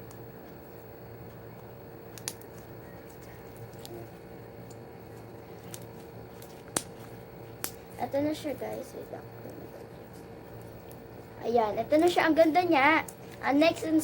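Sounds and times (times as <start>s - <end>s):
room tone hum: 0.0s - 14.0s.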